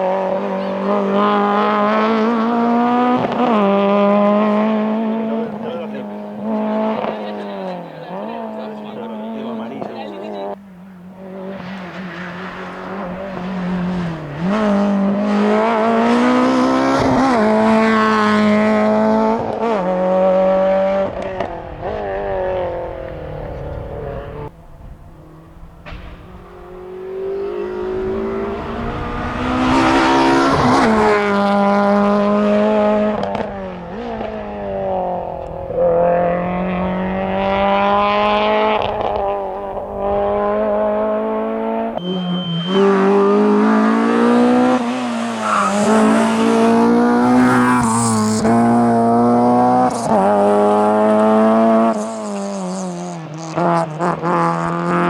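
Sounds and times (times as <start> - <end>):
rally car engine revving hard: 0.0 - 55.0.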